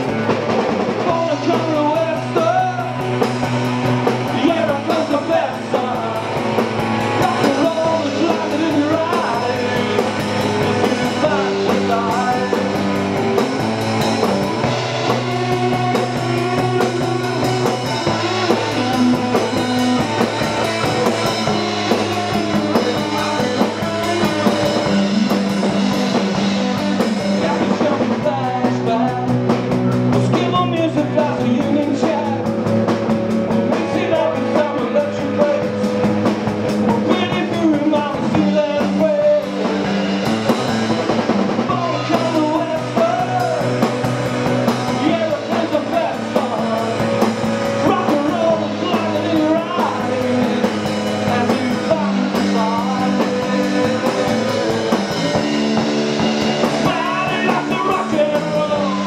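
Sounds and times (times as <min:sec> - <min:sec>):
drum kit: 0:00.0 - 0:59.0
electric guitars: 0:00.0 - 0:59.0
man singing lead vocals: 0:00.0 - 0:59.0.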